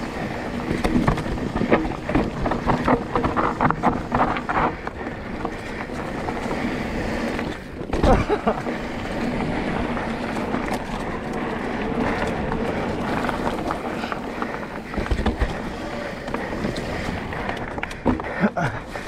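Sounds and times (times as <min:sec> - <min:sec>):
bike rattling over dirt: 0:00.0 - 0:19.0.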